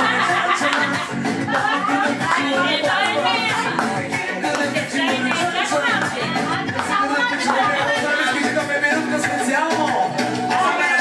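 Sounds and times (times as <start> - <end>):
music with steady beat: 0.0 - 11.0
person singing: 0.0 - 11.0.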